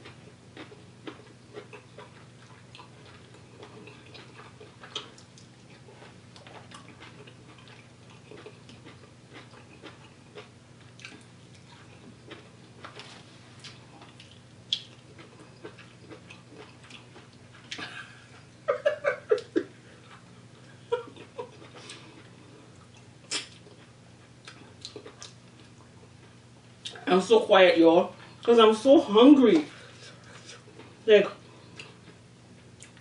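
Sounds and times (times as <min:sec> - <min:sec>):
chewing and lip smacks: 0:00.0 - 0:18.0, 0:19.4 - 0:27.0, 0:31.6 - 0:33.0
faint low hum: 0:00.0 - 0:33.0.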